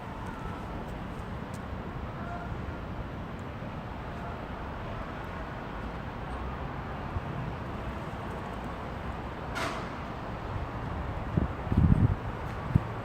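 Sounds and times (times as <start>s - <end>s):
distant traffic: 0.0s - 13.0s.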